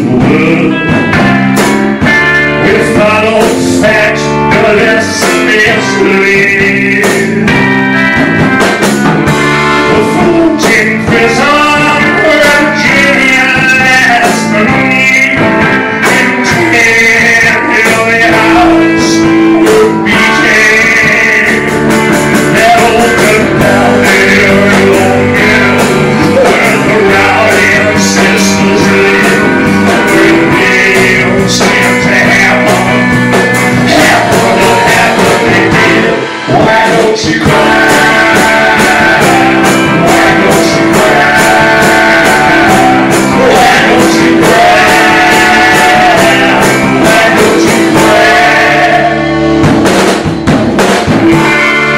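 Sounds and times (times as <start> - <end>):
man singing: 0.0 - 49.8
drum kit: 0.0 - 51.9
electric guitar: 0.0 - 51.9.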